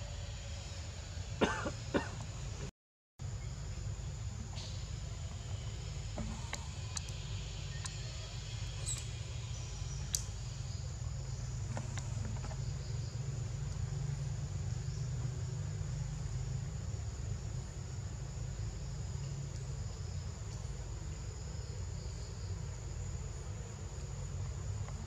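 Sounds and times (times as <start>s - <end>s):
high insect drone: 0.0s - 25.0s
low steady rumble: 0.0s - 25.0s.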